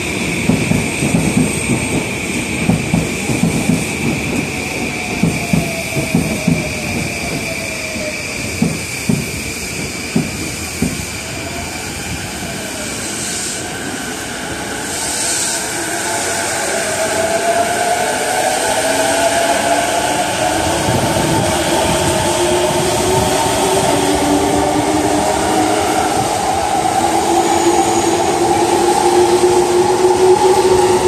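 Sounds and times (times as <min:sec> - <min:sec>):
electric train humming: 0:00.0 - 0:31.0
air hissing: 0:05.4 - 0:31.0.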